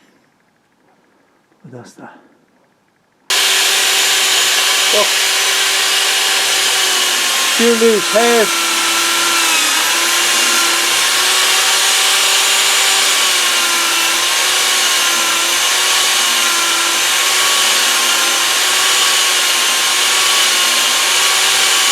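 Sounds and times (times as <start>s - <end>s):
power tool grinding metal: 3.3s - 21.9s.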